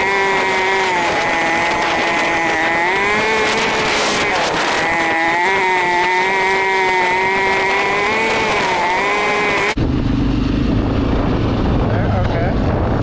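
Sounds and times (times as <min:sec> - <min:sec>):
atv engine whine: 0:00.0 - 0:13.0
wind noise: 0:00.0 - 0:13.0.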